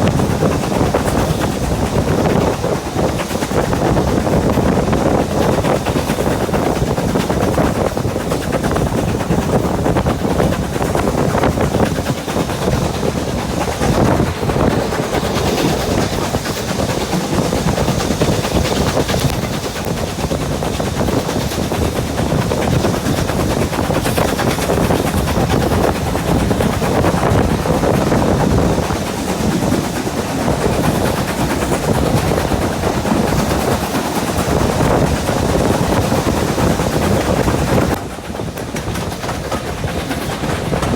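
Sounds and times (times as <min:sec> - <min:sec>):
steam locomotive exhaust beats: 0:00.0 - 0:40.9
train clattering: 0:00.0 - 0:40.9.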